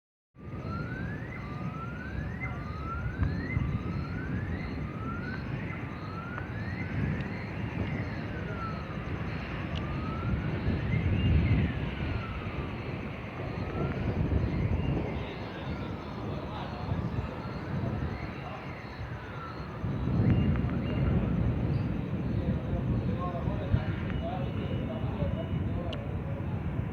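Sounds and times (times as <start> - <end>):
siren wailing: 0.4 - 26.9.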